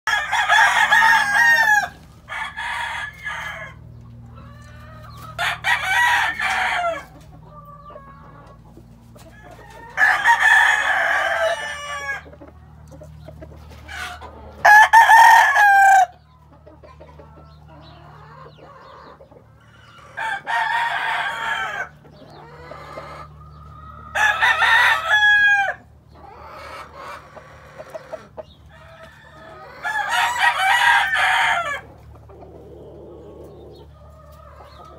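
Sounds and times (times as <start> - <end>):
roosters crowing: 0.1 - 34.9.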